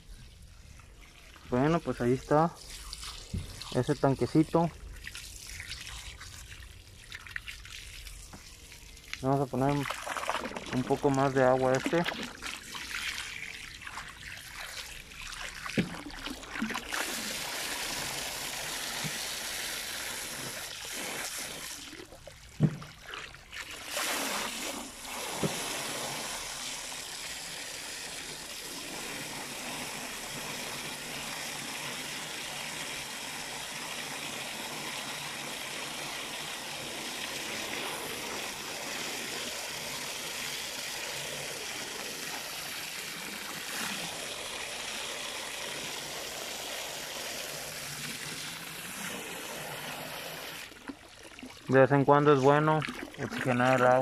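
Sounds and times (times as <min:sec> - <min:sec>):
water running into a tank: 0:00.0 - 0:54.0.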